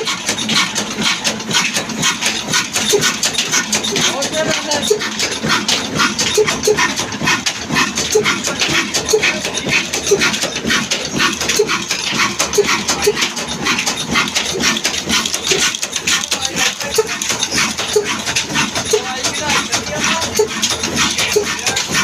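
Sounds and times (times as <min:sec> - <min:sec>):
stationary diesel engine knocking: 0:00.0 - 0:22.0.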